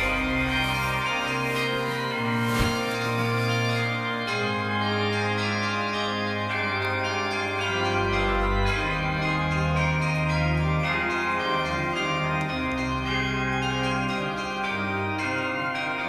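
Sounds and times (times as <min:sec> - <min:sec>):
slow sustained keyboard chords: 0:00.0 - 0:15.2.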